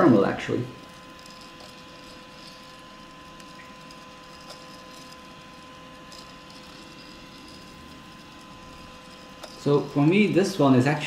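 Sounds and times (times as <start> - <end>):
quiet machine hum: 0.0 - 11.0.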